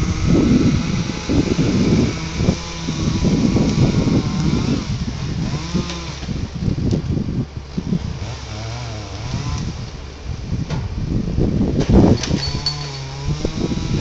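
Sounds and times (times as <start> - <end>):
engine rising and falling: 0.0 - 14.0
wind buffeting microphone: 0.0 - 14.0.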